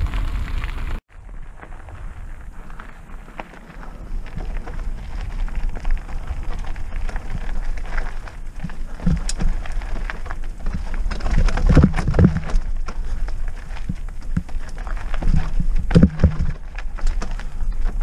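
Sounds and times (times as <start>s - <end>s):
bike knocking and rattling: 0.0s - 18.0s
bike tyres on loose dirt: 0.0s - 18.0s.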